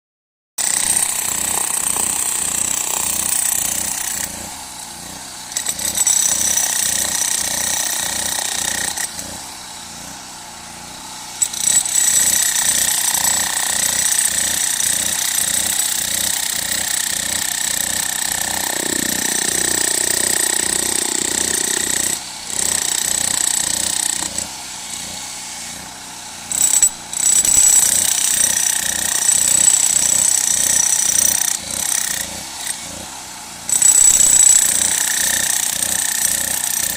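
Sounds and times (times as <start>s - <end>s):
jackhammer breaking rock: 0.6s - 9.5s, 11.4s - 25.2s, 26.5s - 33.0s, 33.7s - 36.9s.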